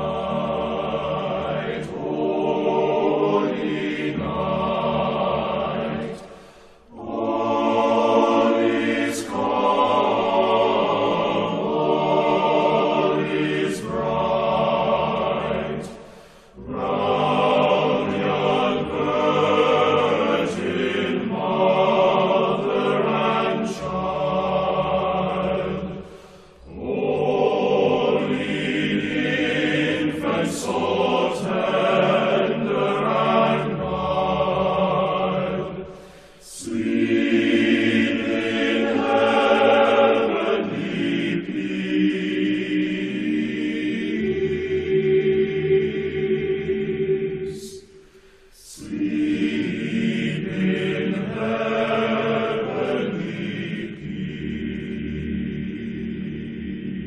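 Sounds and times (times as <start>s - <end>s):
choir singing slow piece: 0.0s - 57.0s.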